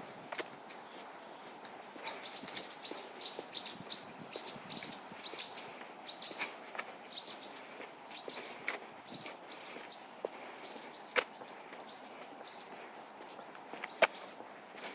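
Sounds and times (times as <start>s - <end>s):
songbird chirping: 0.7s - 14.9s.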